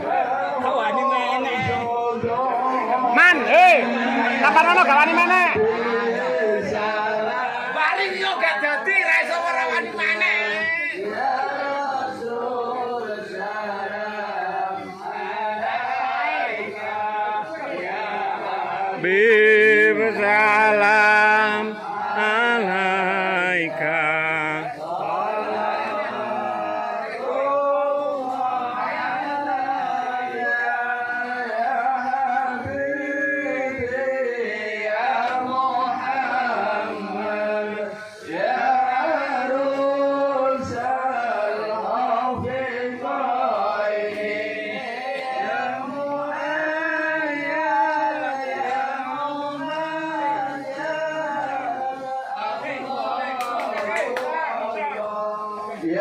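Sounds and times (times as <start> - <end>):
man singing devotional song: 0.0 - 56.0.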